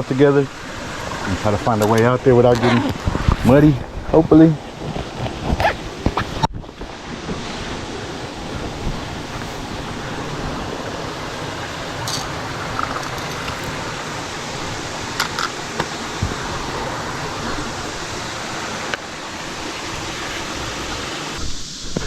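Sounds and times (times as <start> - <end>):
water rushing through spillway: 0.0 - 22.0.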